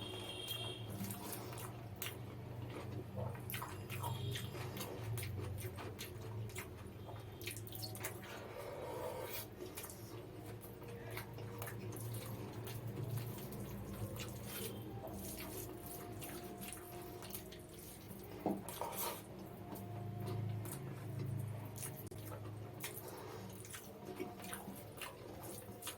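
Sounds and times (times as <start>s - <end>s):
wet chewing and lip smacks: 0.9s - 8.6s, 9.2s - 25.9s.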